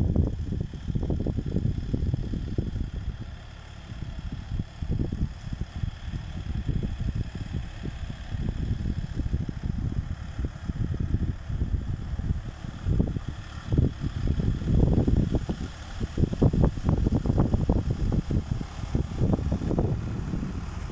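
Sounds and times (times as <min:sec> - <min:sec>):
distant tractor engine running: 0:00.0 - 0:20.9
wind buffeting microphone: 0:00.0 - 0:20.9.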